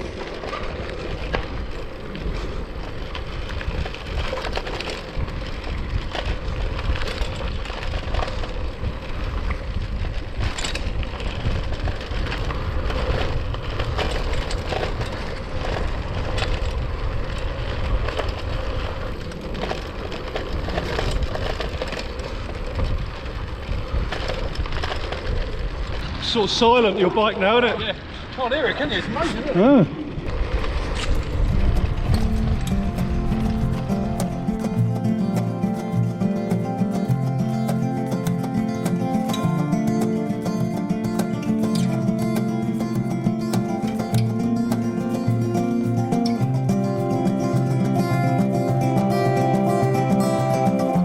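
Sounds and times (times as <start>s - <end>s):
bike rattling over bumps: 0.0s - 51.0s
bike tyres crunching on gravel trail: 0.0s - 51.0s.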